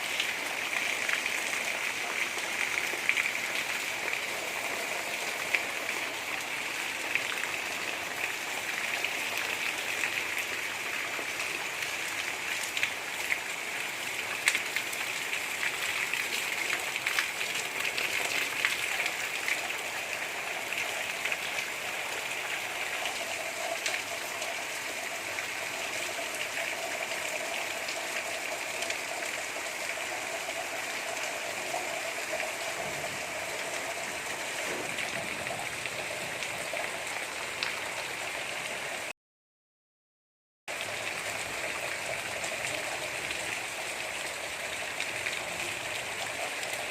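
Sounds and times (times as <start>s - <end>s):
gentle rain falling: 0.0s - 39.1s, 40.7s - 46.9s.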